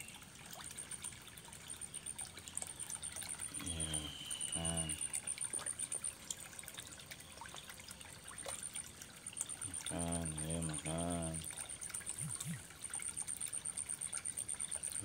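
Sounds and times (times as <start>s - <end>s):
water pouring into pond: 0.0s - 15.0s.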